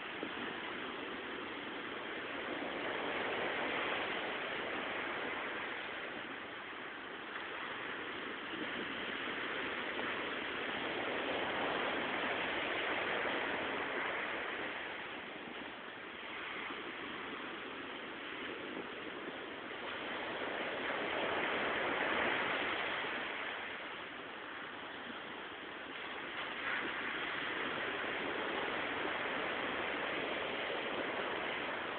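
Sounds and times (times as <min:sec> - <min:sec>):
sea waves washing onto shore: 0:00.0 - 0:31.9.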